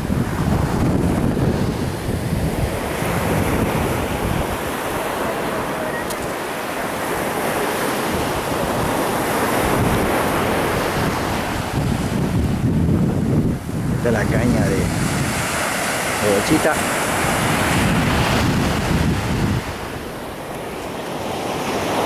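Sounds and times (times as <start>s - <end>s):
surf washing on beach: 0.0s - 22.0s
wind buffeting microphone: 0.0s - 22.0s.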